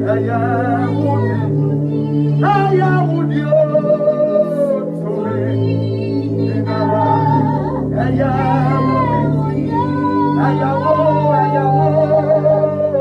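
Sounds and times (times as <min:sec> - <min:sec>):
person singing long notes: 0:00.0 - 0:13.0
sustained keyboard chords: 0:00.0 - 0:13.0.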